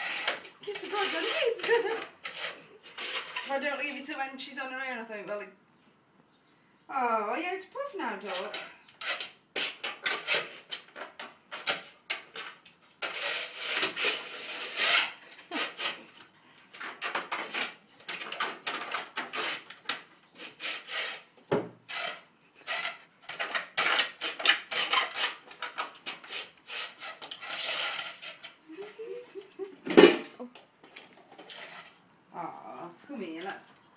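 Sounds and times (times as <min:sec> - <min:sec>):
plastic frisbee scraping on tiles: 0:00.0 - 0:04.2, 0:08.1 - 0:29.2, 0:29.8 - 0:32.0.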